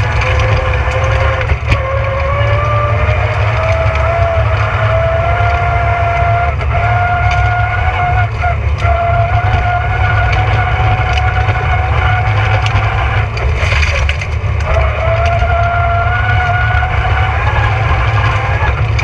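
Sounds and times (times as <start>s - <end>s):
rally car engine revving high: 0.0s - 19.0s.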